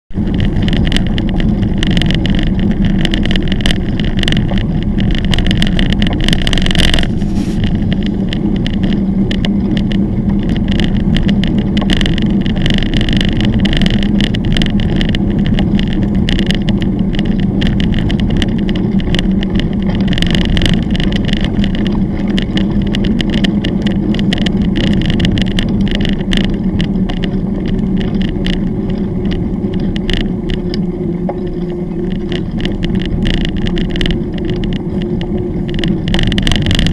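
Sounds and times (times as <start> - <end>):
bike rattles and knocks: 0.1 - 36.9
bike tyres rumbling on gravel: 0.1 - 36.9.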